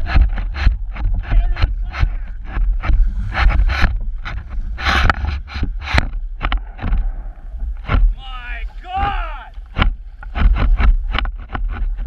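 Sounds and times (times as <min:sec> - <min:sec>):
water slapping against kayak: 0:00.0 - 0:12.0
wind rumbling on microphone: 0:00.0 - 0:12.0.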